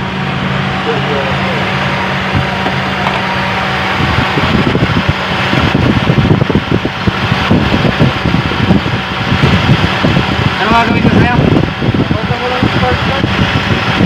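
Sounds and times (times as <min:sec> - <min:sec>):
car engine idling: 0:00.0 - 0:14.0
electric cooling fan: 0:00.0 - 0:14.0.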